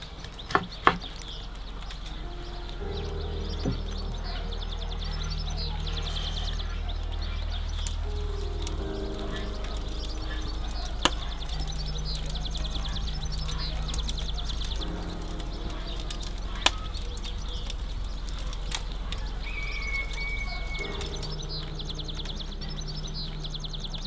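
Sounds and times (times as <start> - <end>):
soft background music chords: 1.0 - 24.0.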